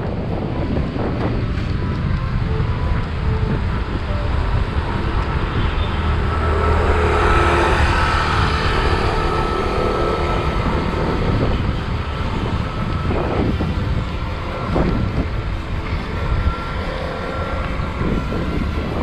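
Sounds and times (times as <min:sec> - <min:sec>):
wind rushing over microphone: 0:00.0 - 0:19.0
motor vehicle passing: 0:01.0 - 0:19.0.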